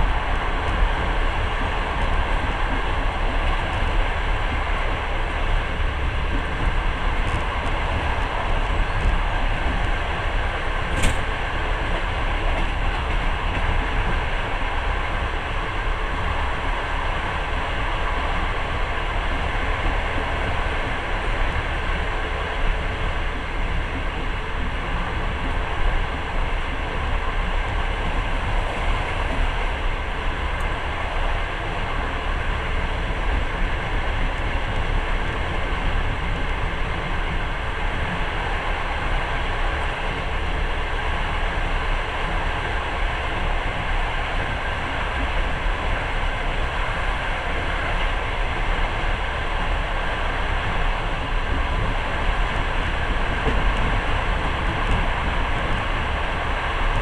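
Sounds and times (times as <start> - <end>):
train running inside carriage: 0.0 - 57.0.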